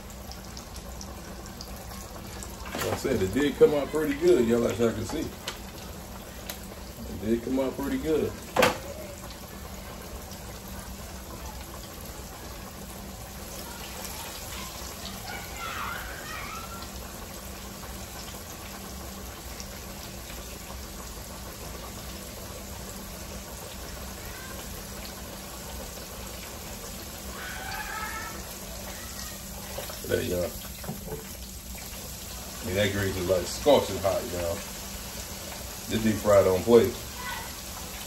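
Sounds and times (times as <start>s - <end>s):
meat sizzling in hot oil: 0.0s - 38.0s.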